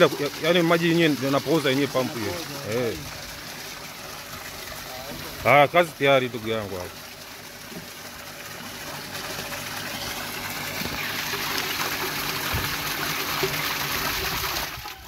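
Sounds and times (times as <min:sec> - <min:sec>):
water gushing and splashing: 0:00.0 - 0:15.0
water pump running: 0:00.0 - 0:15.0.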